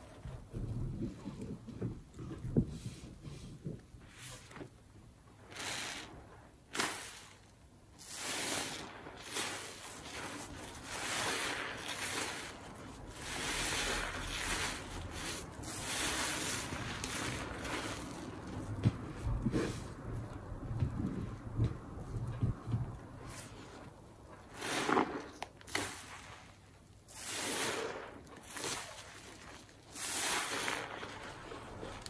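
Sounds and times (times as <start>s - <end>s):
sponge squishing in suds: 0.0s - 32.0s.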